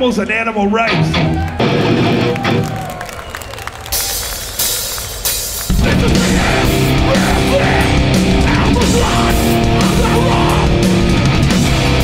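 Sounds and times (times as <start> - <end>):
hardcore band playing loud: 0.9 - 12.0.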